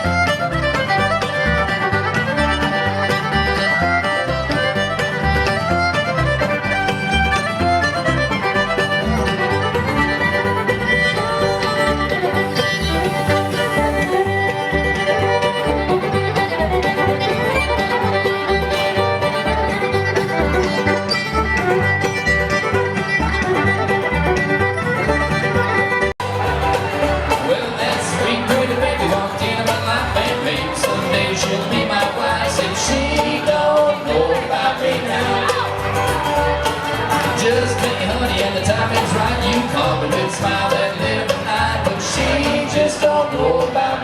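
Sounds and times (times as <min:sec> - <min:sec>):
bluegrass band playing: 0:00.0 - 0:44.0
fiddle: 0:00.0 - 0:44.0.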